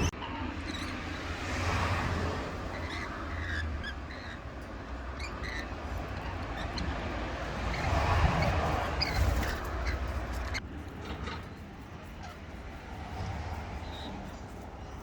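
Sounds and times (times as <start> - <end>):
birds chirping: 0.0 - 1.4, 2.2 - 15.0.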